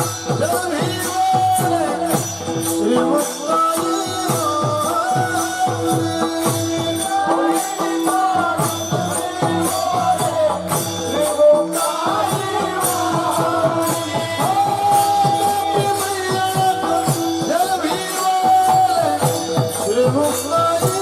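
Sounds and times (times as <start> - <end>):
barrel drum rhythm: 0.0 - 21.0
jingling percussion: 0.0 - 21.0.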